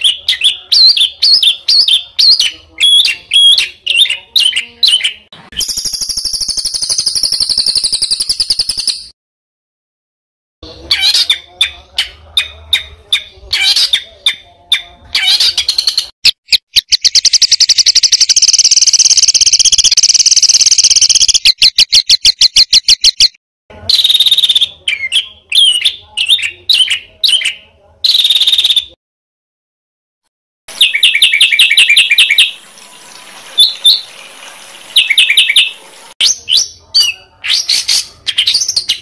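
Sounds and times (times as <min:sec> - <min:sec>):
songbird singing: 0:00.0 - 0:09.1, 0:10.8 - 0:23.3, 0:23.9 - 0:29.0, 0:30.7 - 0:39.0.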